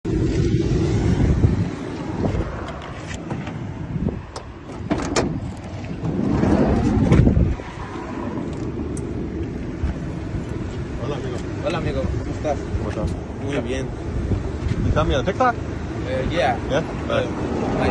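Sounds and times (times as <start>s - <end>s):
low vehicle rumble: 0.0s - 17.9s.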